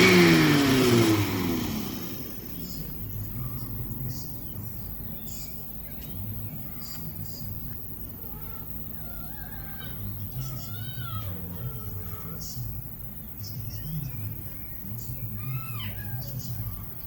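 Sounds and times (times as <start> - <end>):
birds chirping: 0.0 - 17.0
low uneven hum: 0.6 - 17.0.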